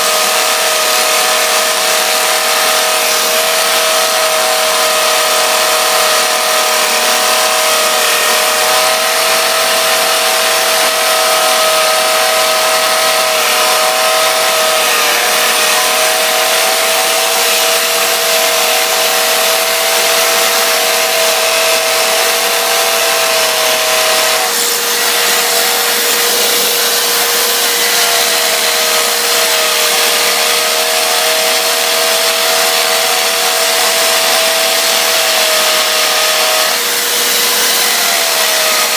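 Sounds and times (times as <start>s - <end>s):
power tool motor whirring: 0.0s - 38.9s.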